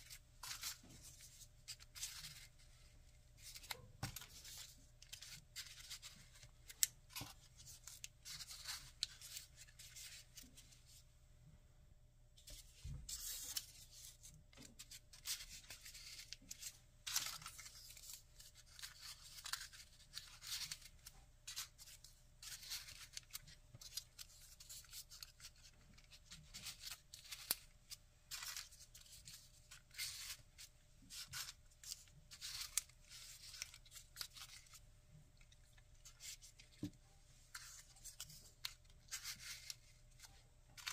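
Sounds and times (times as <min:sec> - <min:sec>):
paper rustling and crinkling: 0:00.0 - 0:11.0, 0:12.4 - 0:34.8, 0:35.4 - 0:40.9.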